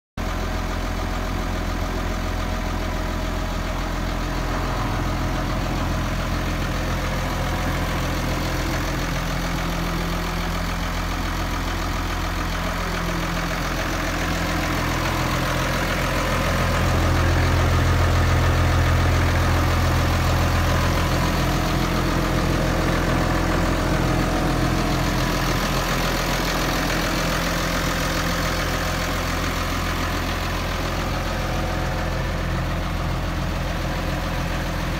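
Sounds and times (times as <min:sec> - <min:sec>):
tractor diesel engine idling: 0:00.2 - 0:34.9.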